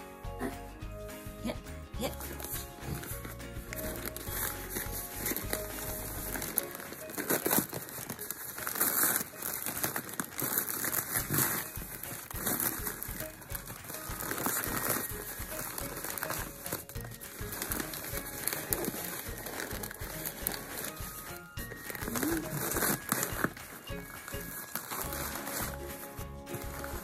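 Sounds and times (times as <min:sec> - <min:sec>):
newspaper crinkling and rustling: 0:02.2 - 0:27.0.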